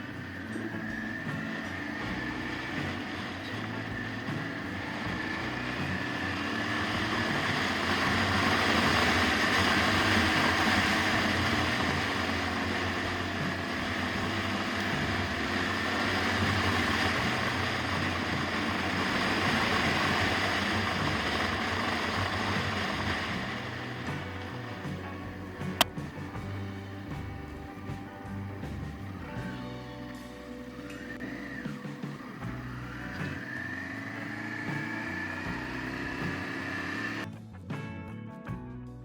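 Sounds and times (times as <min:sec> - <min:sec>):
motorcycle engine revving: 0:00.0 - 0:37.3.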